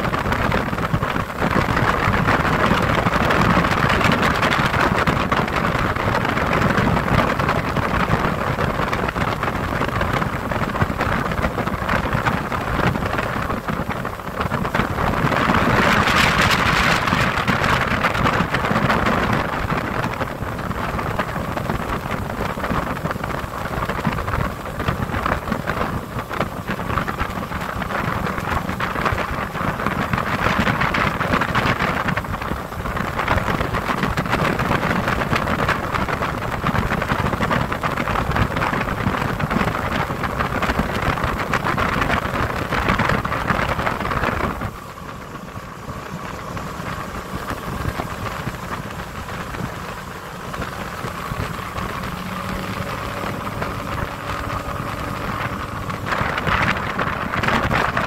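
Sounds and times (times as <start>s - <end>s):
boat motor humming: 0.0s - 58.0s
wind buffeting microphone: 0.0s - 58.0s.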